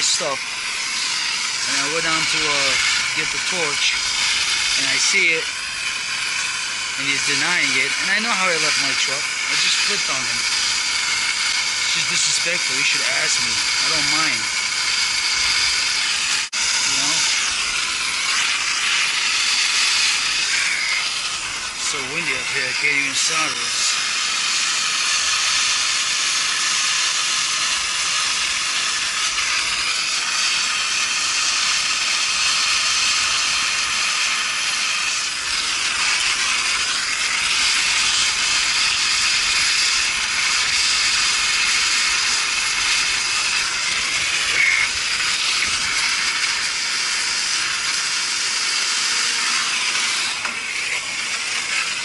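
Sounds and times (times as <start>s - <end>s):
gas torch hissing: 0.0s - 52.0s.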